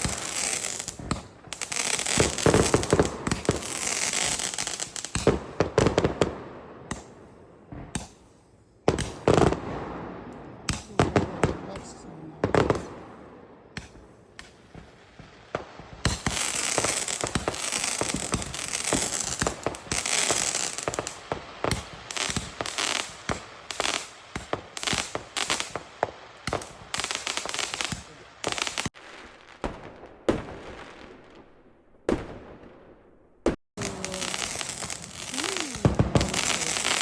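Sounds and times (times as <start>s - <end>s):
fireworks crackling and banging: 0.0s - 37.0s.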